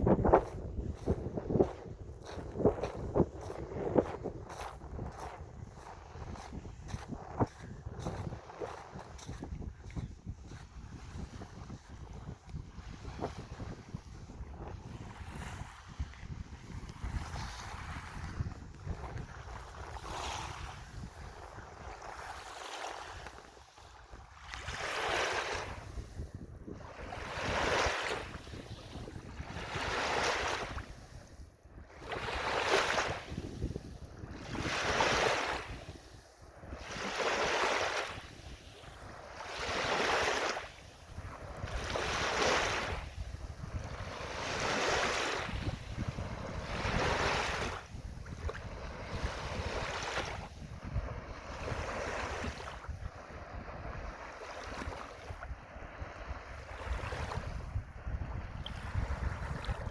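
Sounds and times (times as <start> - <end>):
waves washing in: 0.0 - 23.8, 24.5 - 31.4, 32.0 - 59.9
wind rumbling on microphone: 0.0 - 59.9.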